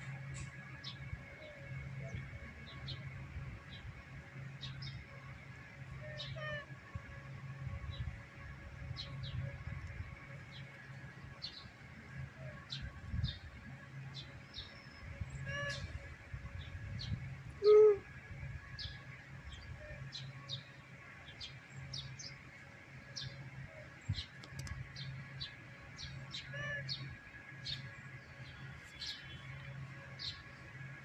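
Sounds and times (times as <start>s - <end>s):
birds chirping: 0.0s - 31.0s
low steady hum: 0.0s - 31.0s.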